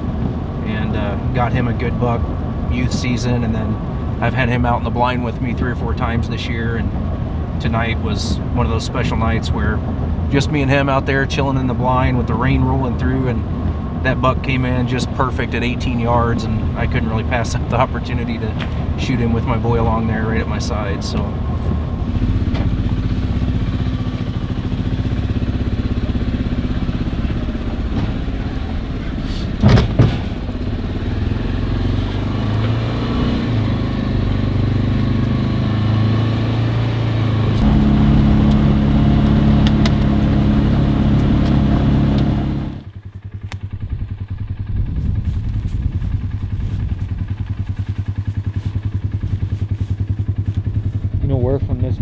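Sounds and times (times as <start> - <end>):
utility vehicle engine running: 0.0 - 52.0.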